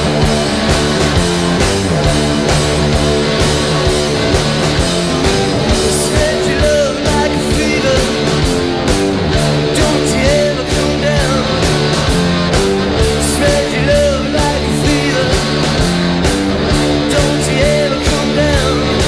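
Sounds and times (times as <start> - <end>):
live rock band: 0.0 - 19.0.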